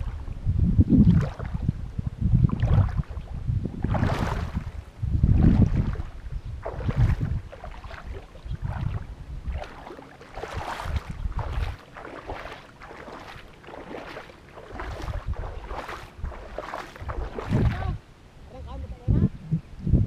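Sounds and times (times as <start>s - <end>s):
water splashing and sloshing: 0.0s - 18.2s
wind rumbling on microphone: 0.0s - 20.0s.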